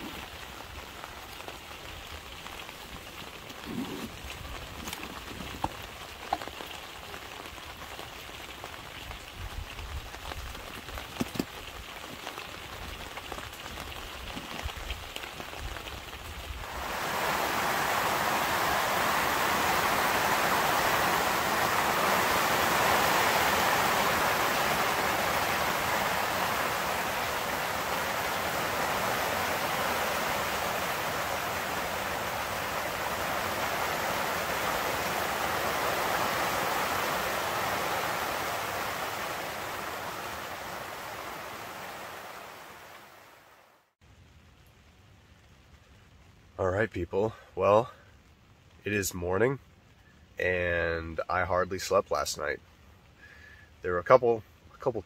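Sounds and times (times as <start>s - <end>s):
rain on tent fabric: 0.0s - 55.0s.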